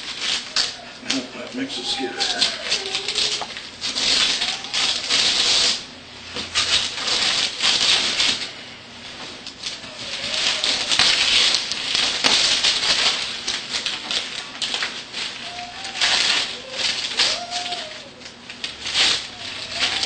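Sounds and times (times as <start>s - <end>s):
wrapping paper crinkling and tearing: 0.0s - 20.0s.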